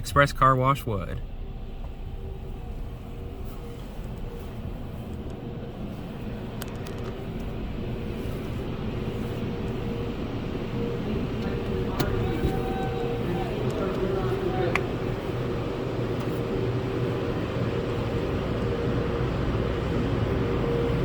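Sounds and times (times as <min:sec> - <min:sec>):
car wash machinery motor hum: 0:00.0 - 0:21.0.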